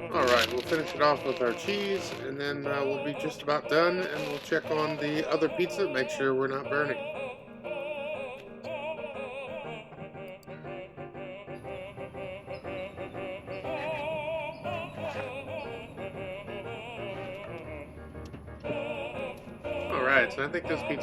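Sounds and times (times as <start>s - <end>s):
vibrato singing with accompaniment: 0.0s - 21.0s.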